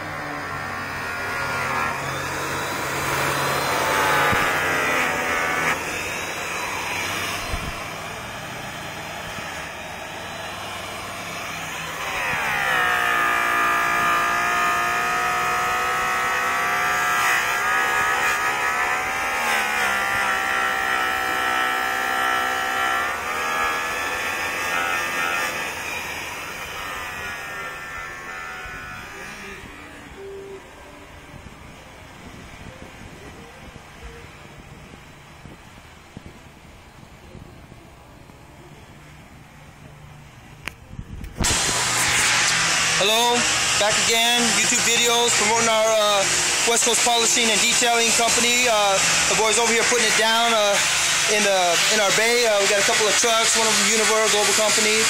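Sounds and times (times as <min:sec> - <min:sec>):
electric polisher whining: 0:00.0 - 0:37.8, 0:38.6 - 0:55.0.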